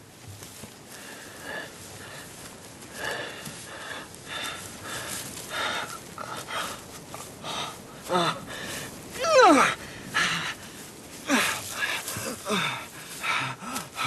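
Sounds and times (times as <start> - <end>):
man breathing hard: 0.8 - 14.0.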